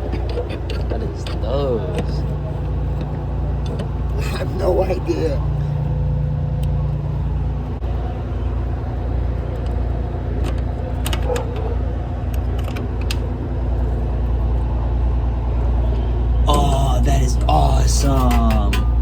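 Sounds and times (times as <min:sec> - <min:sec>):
fire engine idling: 0:00.0 - 0:19.0.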